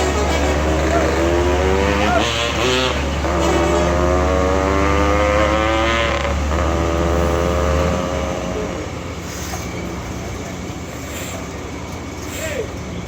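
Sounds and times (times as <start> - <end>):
vehicle engine accelerating: 0.0 - 11.5
traffic rumble: 0.0 - 13.0.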